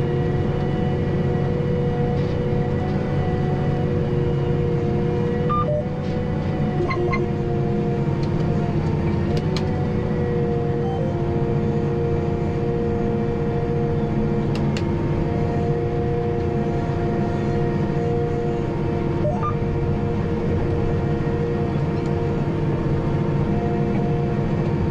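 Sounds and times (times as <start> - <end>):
constant whine: 0.0 - 24.9
tractor diesel engine droning: 0.0 - 24.9.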